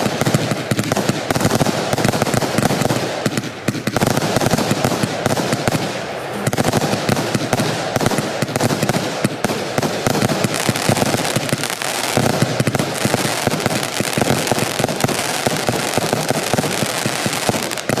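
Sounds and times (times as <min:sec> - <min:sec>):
firework barrage rapid shots: 0:00.0 - 0:18.0.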